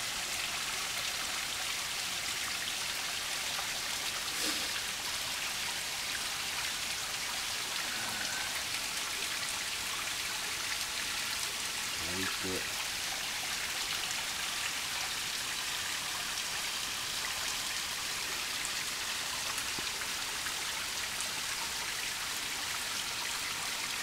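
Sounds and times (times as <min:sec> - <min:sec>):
water trickling into pool: 0:00.0 - 0:24.0.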